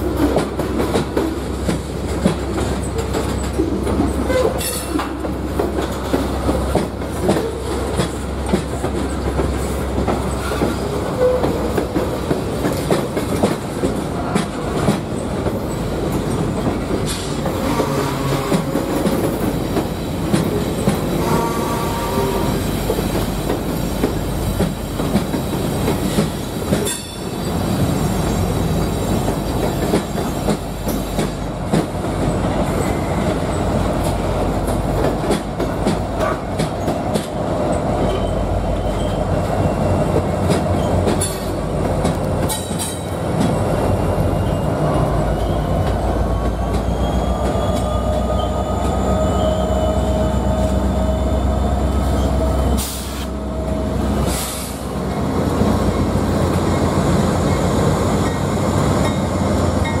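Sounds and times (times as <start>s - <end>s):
diesel locomotive engine drone: 0.0s - 60.0s
rail joint clicks: 0.0s - 60.0s
train wheels rumbling: 0.0s - 60.0s.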